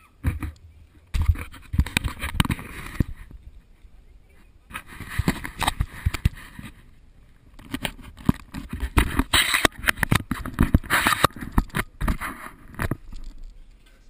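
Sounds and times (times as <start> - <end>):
rubbing against microphone: 0.0 - 14.0
camera knocking and scraping: 0.2 - 3.4, 4.7 - 6.9, 7.5 - 14.0.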